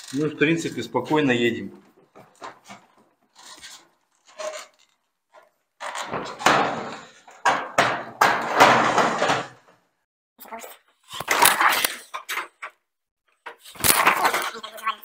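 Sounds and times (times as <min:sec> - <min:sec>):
plastic tool boxes scraping: 0:00.0 - 0:09.8, 0:11.1 - 0:12.7, 0:13.5 - 0:14.6.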